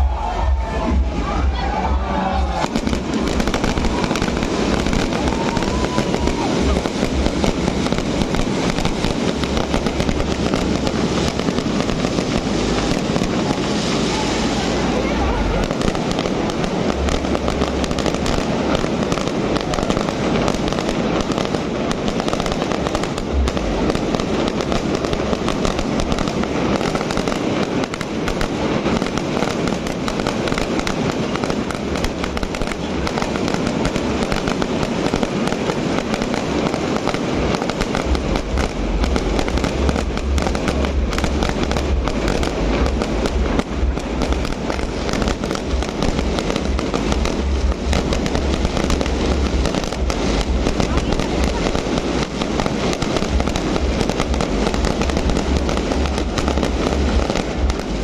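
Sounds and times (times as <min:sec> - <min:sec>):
deep fireworks booms: 0:00.0 - 0:58.0
fireworks crackling bangs: 0:00.0 - 0:58.0.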